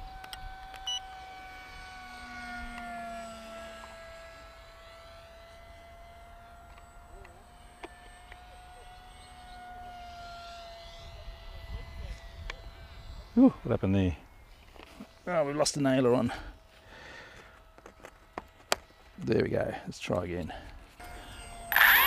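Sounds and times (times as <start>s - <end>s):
small drone motor whining: 0.0s - 19.2s, 20.9s - 22.0s.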